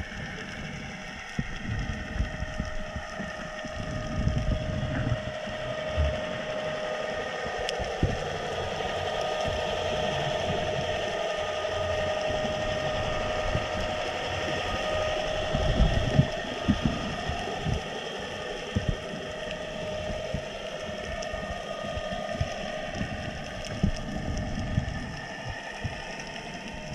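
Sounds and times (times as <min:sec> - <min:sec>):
underwater mechanical hum: 0:00.0 - 0:26.9.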